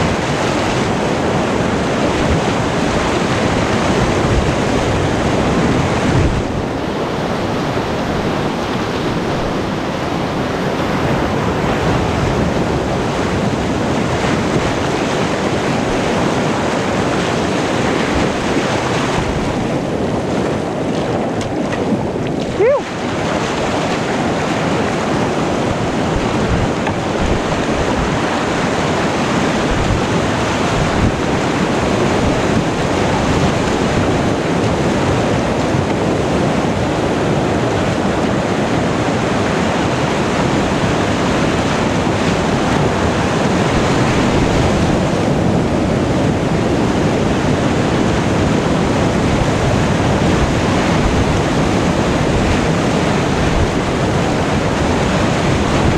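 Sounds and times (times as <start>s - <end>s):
river rapids rushing: 0.0s - 55.9s.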